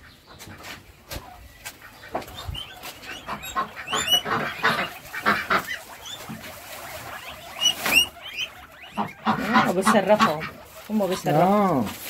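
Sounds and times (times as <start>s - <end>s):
chicks peeping: 0.0s - 12.0s
poultry harsh calls: 0.0s - 12.0s.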